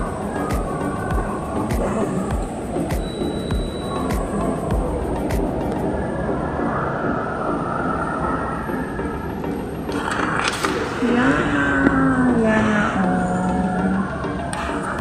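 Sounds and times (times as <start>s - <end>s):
steady background hum: 0.0s - 15.0s
voice with gliding pitch: 0.0s - 15.0s.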